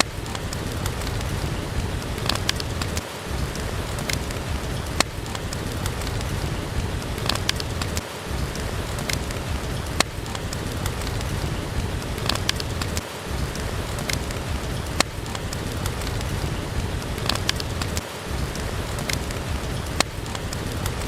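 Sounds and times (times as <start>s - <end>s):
fireplace crackling: 0.0s - 21.0s
steady rain falling: 0.0s - 21.0s.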